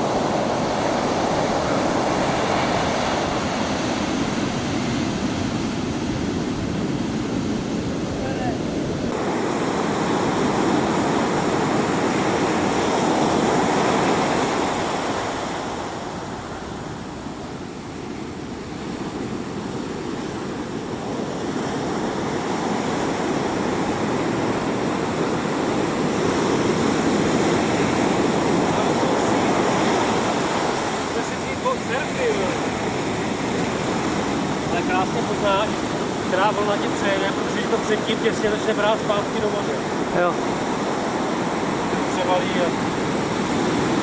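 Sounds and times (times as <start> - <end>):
ocean surf breaking: 0.0 - 44.0.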